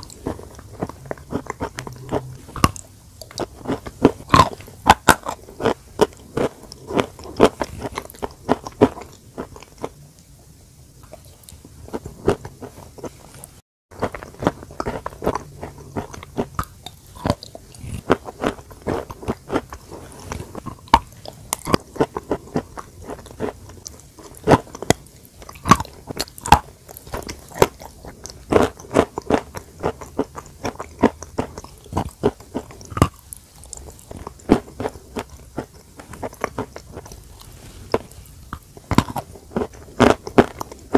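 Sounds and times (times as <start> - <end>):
crunching bites and chewing: 0.0 - 10.0, 11.0 - 40.9.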